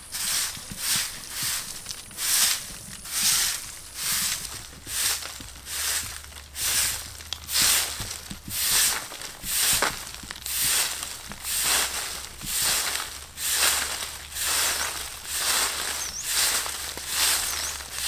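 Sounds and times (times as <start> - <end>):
broom sweeping dirt and leaves: 0.0 - 18.0.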